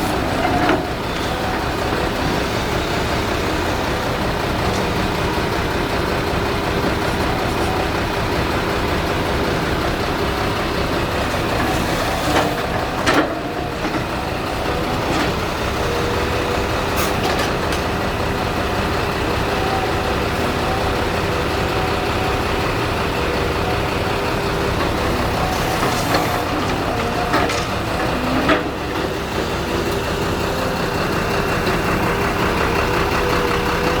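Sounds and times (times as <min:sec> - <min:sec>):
heavy diesel machinery running: 0:00.0 - 0:34.0.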